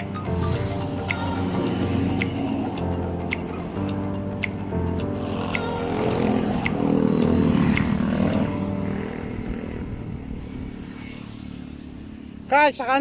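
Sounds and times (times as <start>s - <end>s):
motorcycle engine passing: 0.0s - 13.0s.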